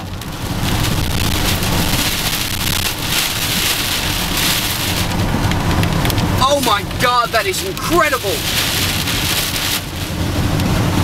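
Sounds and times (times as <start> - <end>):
car rumbling on road: 0.0 - 11.0
heavy rain and wind on car: 0.0 - 11.0.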